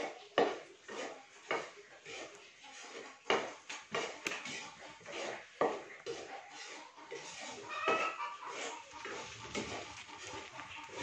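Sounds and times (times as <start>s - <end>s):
metal spatula scraping a pan: 0.0s - 11.0s.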